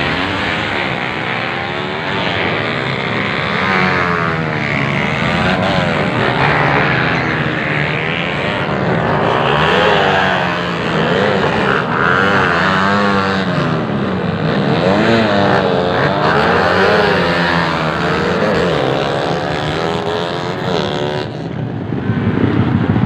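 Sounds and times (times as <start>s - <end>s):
racing engines revving: 0.0s - 22.0s.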